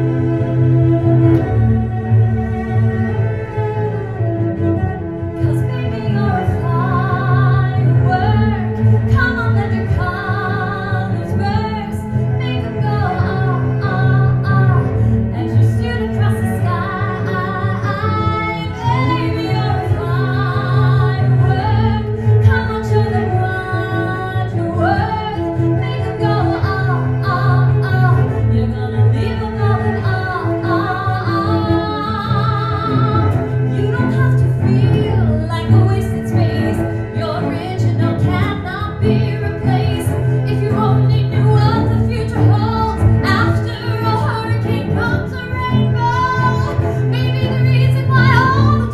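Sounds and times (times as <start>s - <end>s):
bowed cello: 0.0s - 48.9s.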